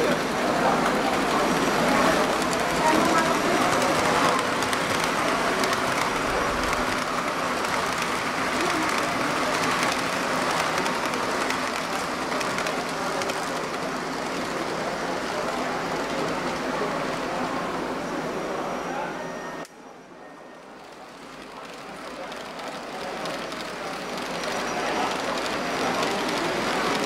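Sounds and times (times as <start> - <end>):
busy hall background noise: 0.0 - 27.0
model trains running: 0.0 - 27.0.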